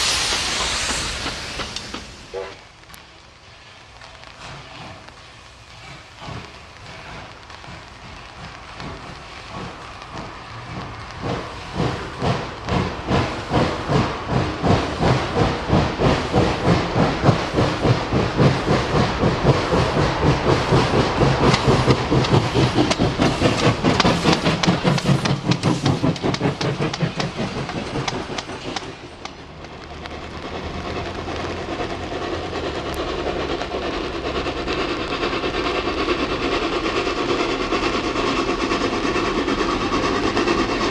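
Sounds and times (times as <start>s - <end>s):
steam locomotive chuffing: 0.0s - 40.9s
train rolling rattle: 0.0s - 40.9s.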